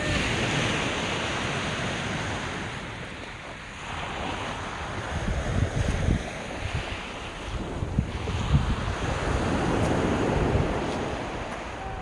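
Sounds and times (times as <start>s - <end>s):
surf washing on beach: 0.0s - 12.0s
wind buffeting microphone: 0.0s - 12.0s.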